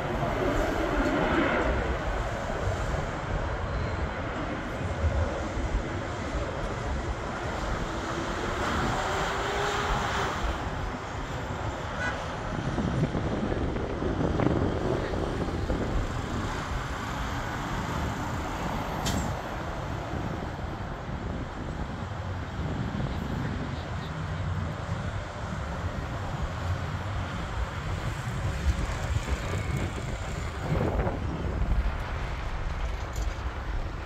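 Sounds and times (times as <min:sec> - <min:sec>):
jet engines taking off: 0:00.0 - 0:34.0
road traffic: 0:00.0 - 0:34.0.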